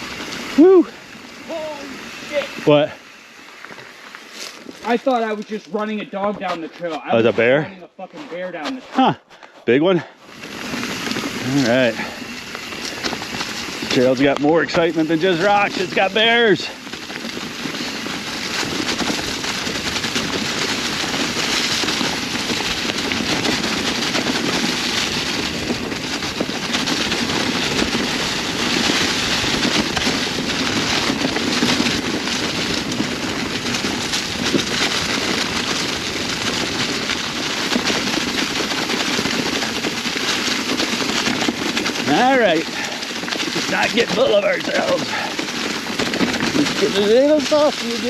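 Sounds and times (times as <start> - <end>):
bike tyres crackling through leaves: 0.0 - 48.0.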